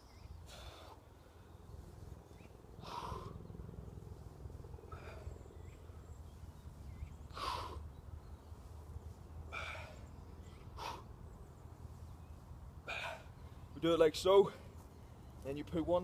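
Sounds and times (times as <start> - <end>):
faint low rumble: 0.0 - 13.8.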